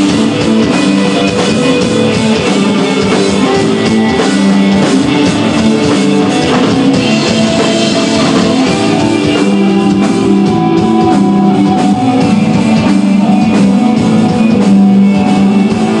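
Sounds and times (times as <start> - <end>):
bass guitar: 0.0 - 16.0
drum kit and cymbals: 0.0 - 16.0
electric guitar: 0.0 - 16.0.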